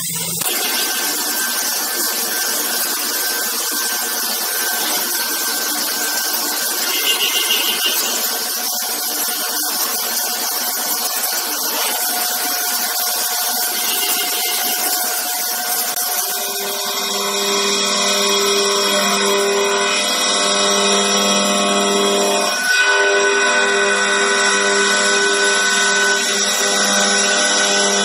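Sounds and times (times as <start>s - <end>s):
thin machine whine: 0.0s - 28.0s.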